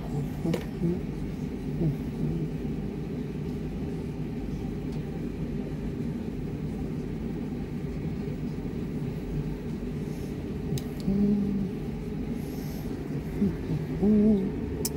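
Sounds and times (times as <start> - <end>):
low mechanical rumble: 0.0 - 14.9.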